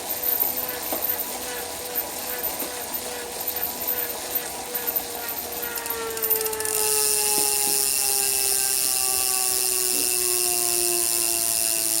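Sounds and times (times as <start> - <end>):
bike trainer flywheel whine: 0.0 - 12.0.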